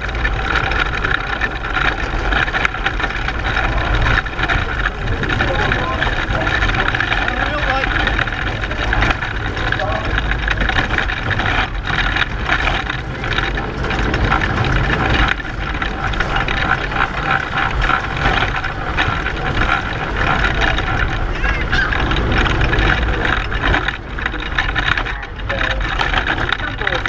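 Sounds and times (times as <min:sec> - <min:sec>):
low rumble: 0:00.0 - 0:27.0
pedal car clattering rattle: 0:00.0 - 0:27.0.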